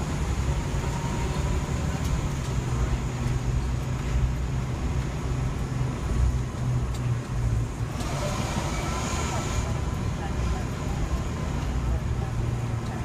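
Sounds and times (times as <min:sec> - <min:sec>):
diesel engine hum: 0:00.0 - 0:13.0
road noise: 0:00.0 - 0:13.0.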